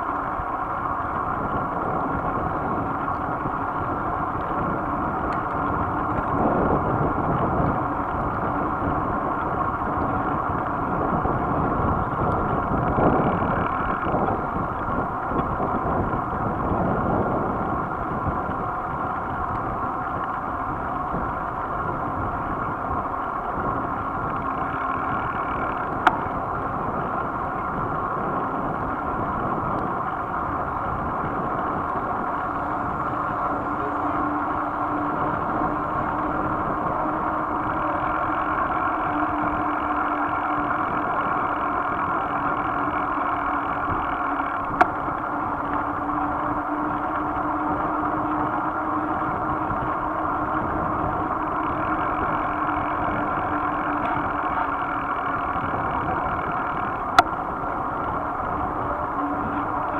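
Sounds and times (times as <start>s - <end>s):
tyre and road rumble: 0.0s - 59.9s
wind buffeting microphone: 0.0s - 59.9s.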